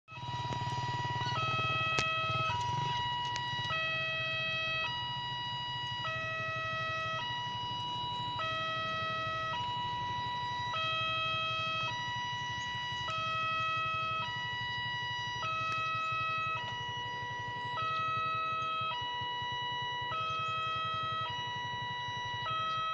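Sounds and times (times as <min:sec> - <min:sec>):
two-tone crossing alarm: 0:00.0 - 0:22.9.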